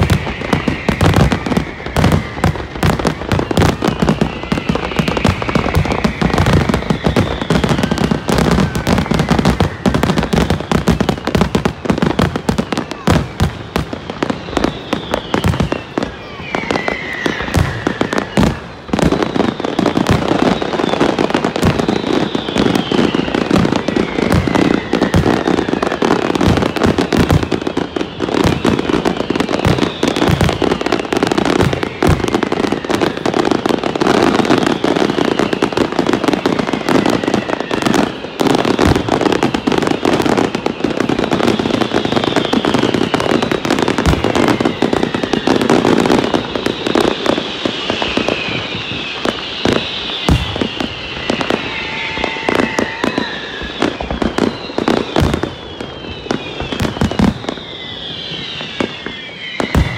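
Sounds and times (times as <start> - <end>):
firework whistles falling in pitch: 0.0 - 59.9
fireworks bangs and crackling: 0.0 - 59.9.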